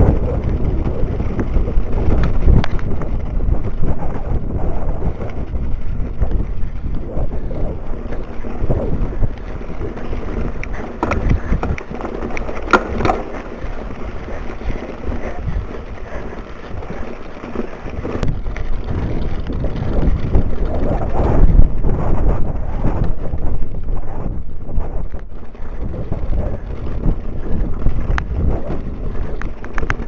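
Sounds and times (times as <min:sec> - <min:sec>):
mountain bike rumble and rattle: 0:00.0 - 0:30.0
wind buffeting microphone: 0:00.0 - 0:30.0.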